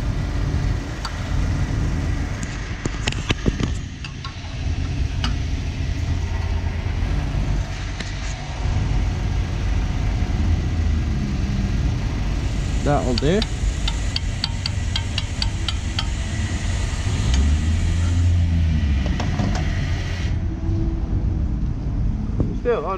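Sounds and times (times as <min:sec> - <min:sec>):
engine idling: 0:00.0 - 0:20.6.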